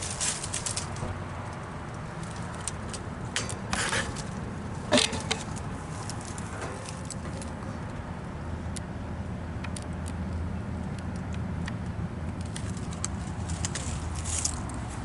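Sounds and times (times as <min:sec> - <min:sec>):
light clicks and rustles: 0:00.0 - 0:08.0, 0:09.7 - 0:15.0
heat pump humming: 0:00.0 - 0:15.0.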